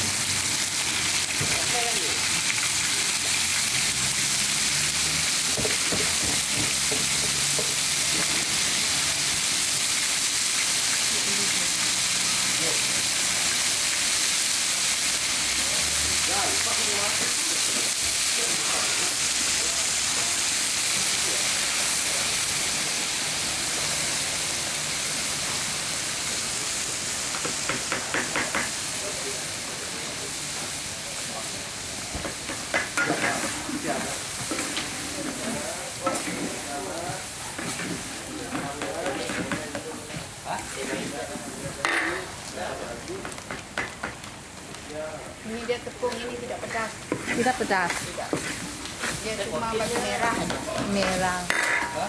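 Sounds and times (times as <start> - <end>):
hot oil sizzling and crackling: 0.0 - 52.0.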